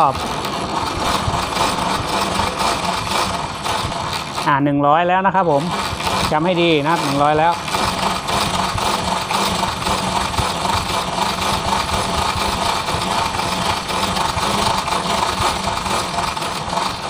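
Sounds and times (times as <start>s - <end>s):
coil-winding machine whirring: 0.0s - 17.0s.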